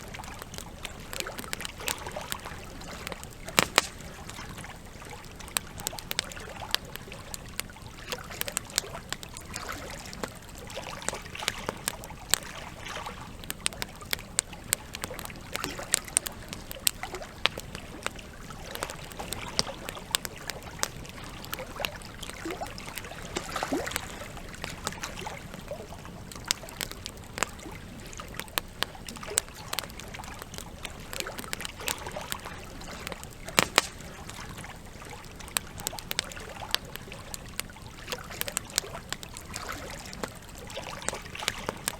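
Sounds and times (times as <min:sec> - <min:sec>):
campfire crackling and popping: 0:00.0 - 0:41.9
trickling water: 0:00.0 - 0:41.9.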